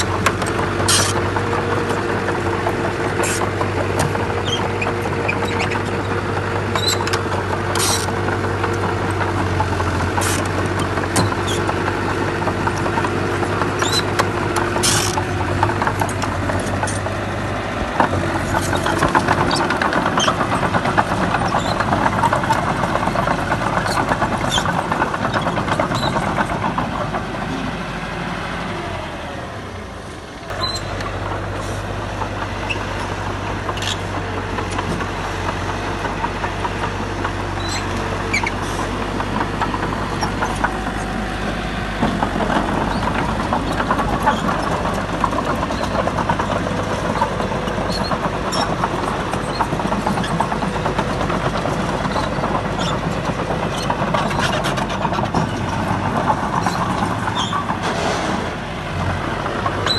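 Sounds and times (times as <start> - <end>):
bulldozer engine hum: 0.0 - 59.9.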